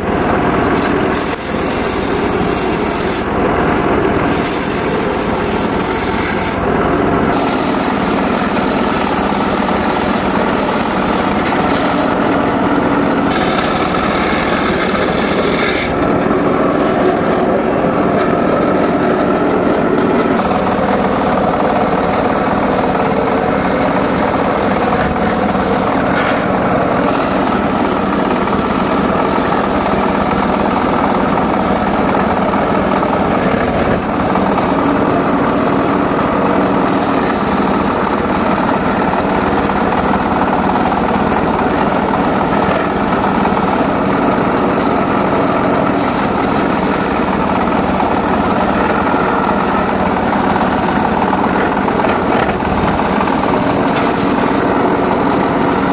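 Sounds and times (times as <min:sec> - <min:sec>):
circular saw humming: 0:00.0 - 0:55.9
saw blade cutting wood hiss: 0:00.6 - 0:03.3, 0:04.2 - 0:06.7, 0:07.3 - 0:16.1, 0:20.4 - 0:35.0, 0:36.8 - 0:43.9, 0:45.8 - 0:54.8.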